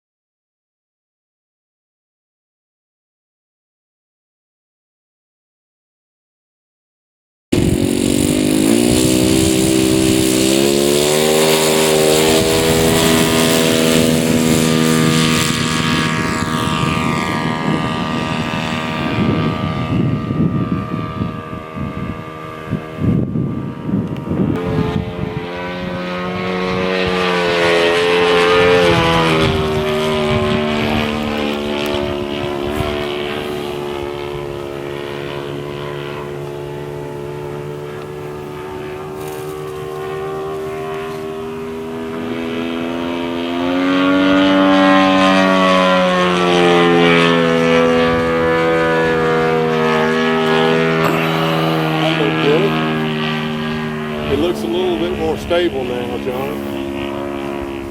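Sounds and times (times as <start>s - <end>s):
model airplane engine drone: 7.5s - 57.9s.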